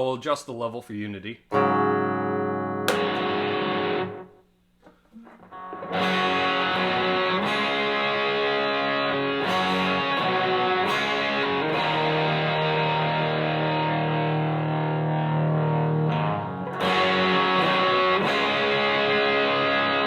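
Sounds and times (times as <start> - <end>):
distorted electric guitar chords: 1.5 - 4.4, 5.2 - 20.0.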